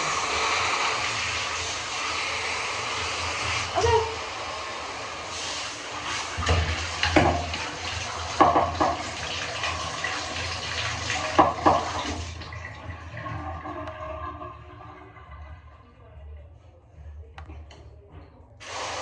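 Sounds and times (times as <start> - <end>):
tap water running: 0.0 - 15.8, 18.6 - 19.0.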